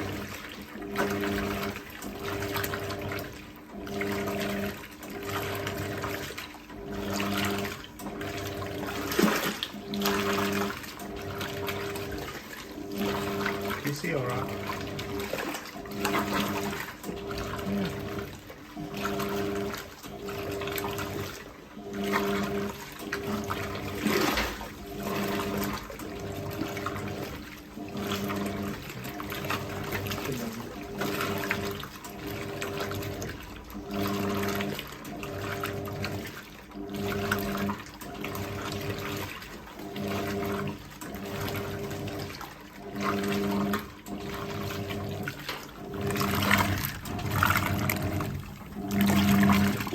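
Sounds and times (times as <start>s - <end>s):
washing machine motor hum: 0.0s - 49.9s
water sloshing: 0.0s - 49.9s.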